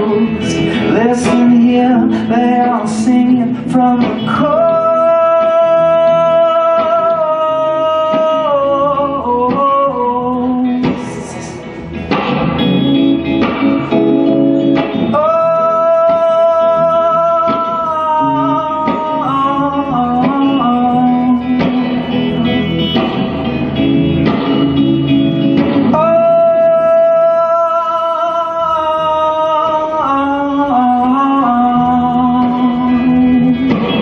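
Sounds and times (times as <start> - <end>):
strummed guitar: 0.0 - 34.0
wordless held melody line: 0.0 - 34.0.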